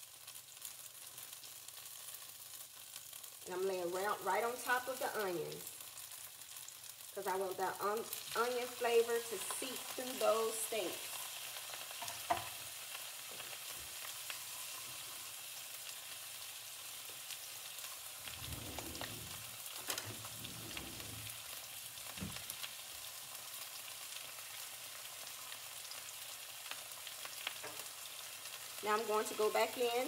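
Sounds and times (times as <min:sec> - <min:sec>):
steaks sizzling in a pan: 0:00.0 - 0:30.0.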